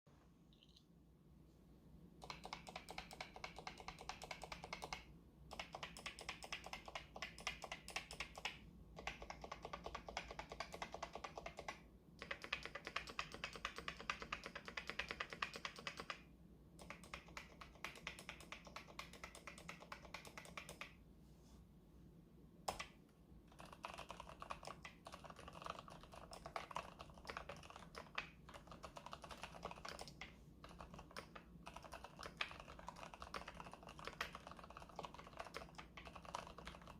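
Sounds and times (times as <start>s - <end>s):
mechanical keyboard typing: 2.2s - 16.2s, 16.8s - 21.0s, 22.7s - 22.9s, 23.5s - 36.9s.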